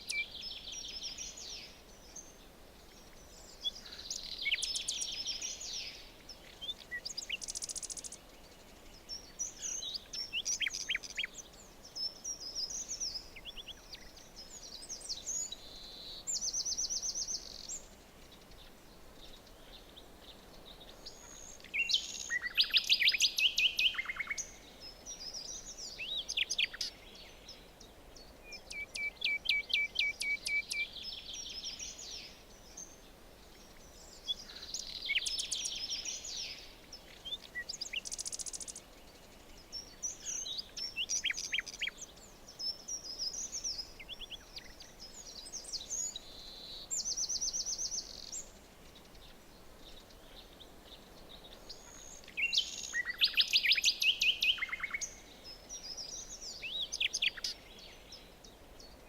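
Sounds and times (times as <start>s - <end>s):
faint steady background hiss: 0.0s - 59.0s
songbirds singing and chirping: 0.0s - 59.0s.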